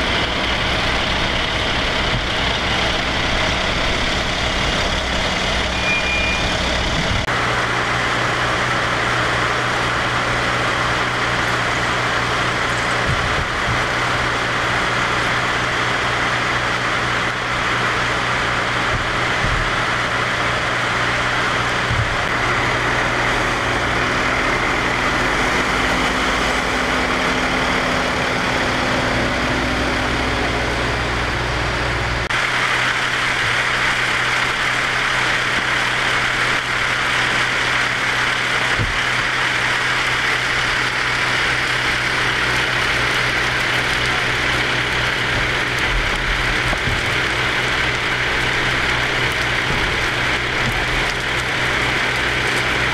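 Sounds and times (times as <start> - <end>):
fire engine idling: 0.0 - 52.9.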